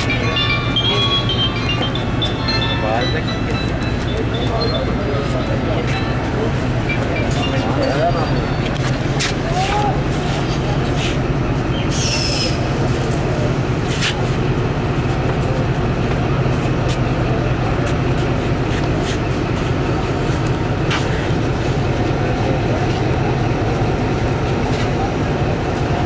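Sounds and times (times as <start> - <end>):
locomotive engine idling: 0.0 - 26.0.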